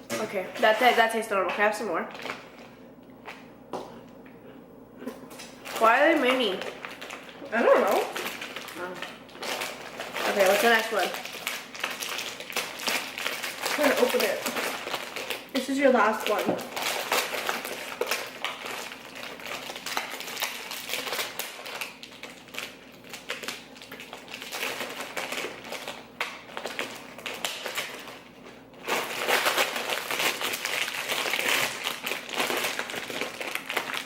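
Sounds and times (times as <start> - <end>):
snack package crinkling: 2.1 - 3.5, 5.0 - 34.0.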